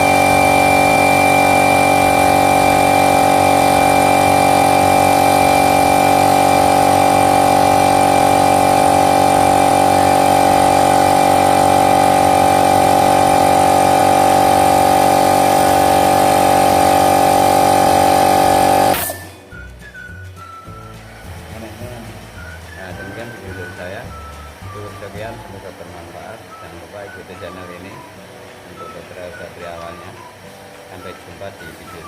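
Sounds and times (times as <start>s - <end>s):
electric air compressor running: 0.0s - 19.4s, 21.4s - 32.0s.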